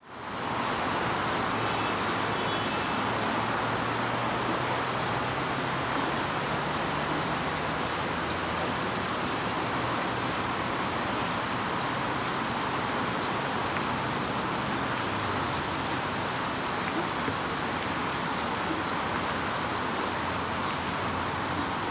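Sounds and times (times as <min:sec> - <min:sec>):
fountain water splashing: 0:00.0 - 0:21.9.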